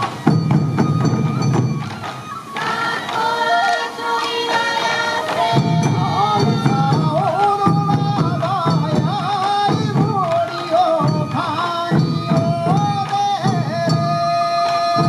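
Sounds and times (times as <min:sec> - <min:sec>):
bamboo flute melody: 0:00.0 - 0:15.0
taiko drums beating: 0:00.0 - 0:15.0.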